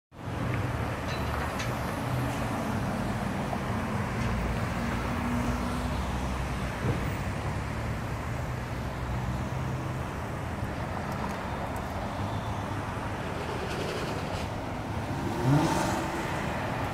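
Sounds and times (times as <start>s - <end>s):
car engines droning: 0.2s - 16.9s.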